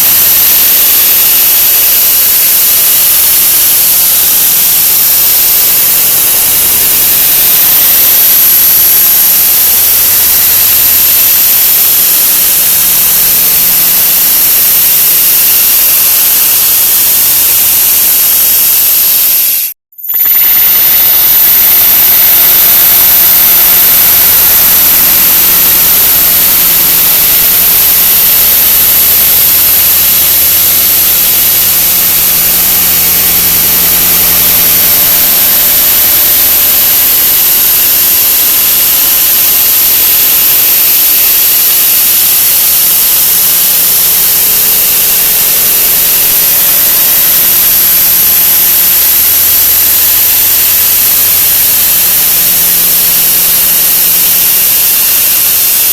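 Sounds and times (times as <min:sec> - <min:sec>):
high steady whine: 0:00.0 - 0:55.9.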